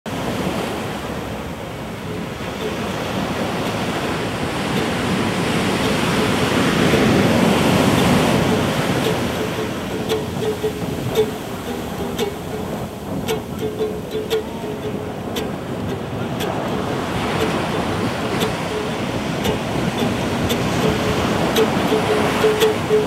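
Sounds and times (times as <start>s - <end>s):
ocean surf washing onto beach: 0.1s - 23.0s
ukulele notes: 1.5s - 23.0s.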